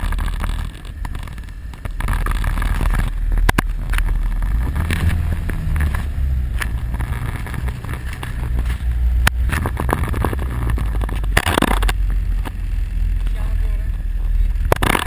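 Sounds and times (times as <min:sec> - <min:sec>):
quad bike engine rumbling: 0:00.0 - 0:15.0.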